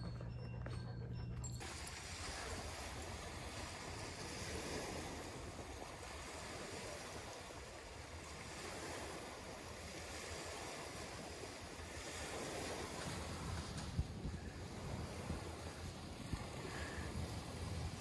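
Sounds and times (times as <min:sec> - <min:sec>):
waves washing onto beach: 0:01.6 - 0:18.0
wind on microphone: 0:01.6 - 0:18.0.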